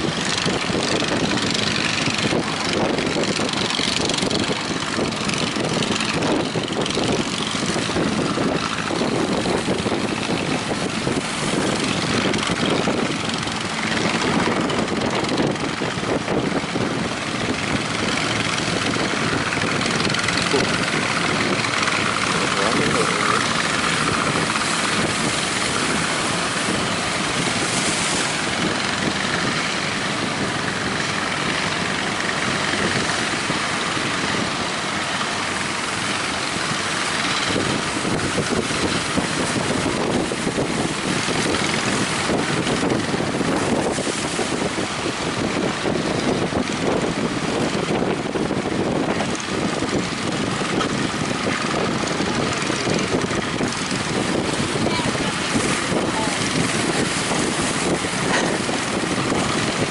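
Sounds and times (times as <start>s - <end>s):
heavy surf: 0.0s - 59.9s
strong wind on microphone: 0.0s - 59.9s.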